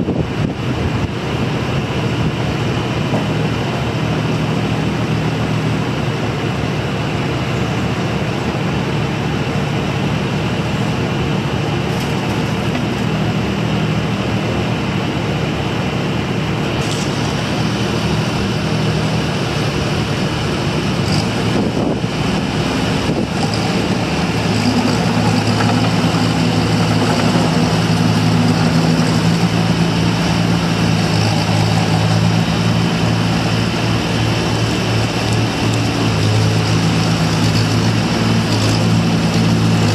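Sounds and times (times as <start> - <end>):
mini excavator diesel engine running: 0.0 - 39.9.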